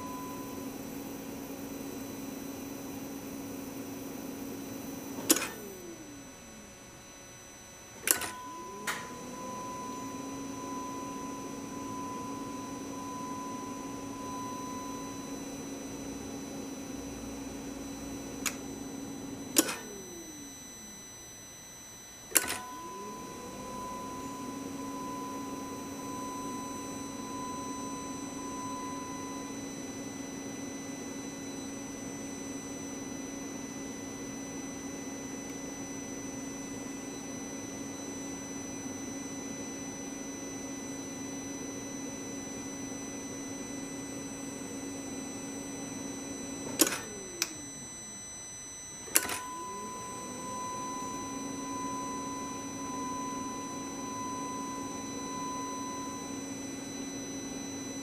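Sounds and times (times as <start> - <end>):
electric fuel pump humming: 0.0 - 58.0.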